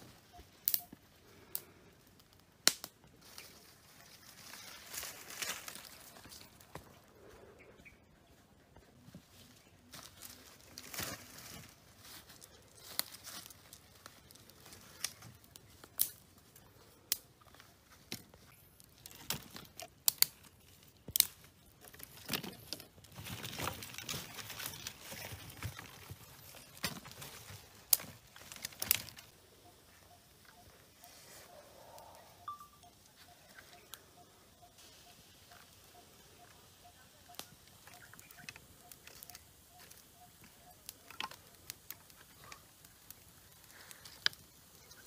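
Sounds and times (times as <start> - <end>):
dry leaves rustling: 3.1 - 7.3, 9.2 - 45.0.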